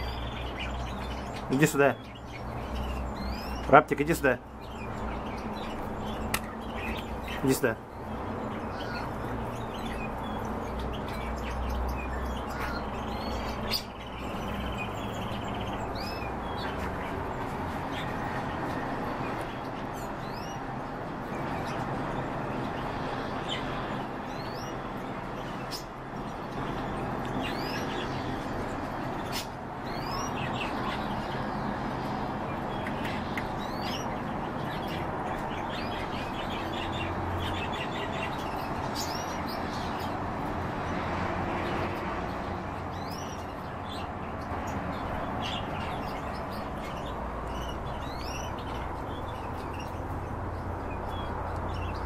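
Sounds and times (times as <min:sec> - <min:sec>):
birds chirping and trilling: 0:00.0 - 0:52.0.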